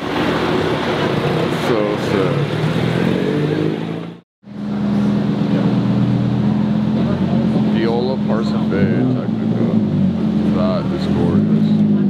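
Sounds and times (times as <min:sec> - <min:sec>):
car engine driving: 0:00.0 - 0:12.0
sports car engine at low revs: 0:00.0 - 0:12.0.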